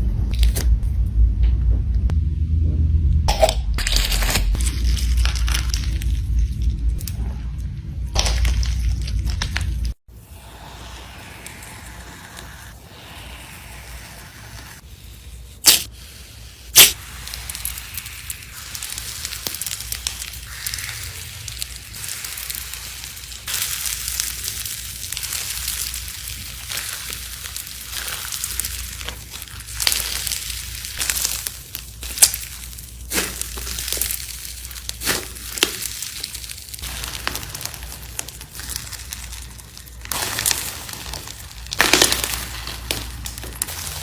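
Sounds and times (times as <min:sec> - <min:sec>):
slime crackling and popping: 0:03.8 - 0:07.2, 0:08.1 - 0:14.8, 0:15.6 - 0:15.9, 0:16.7 - 0:44.0.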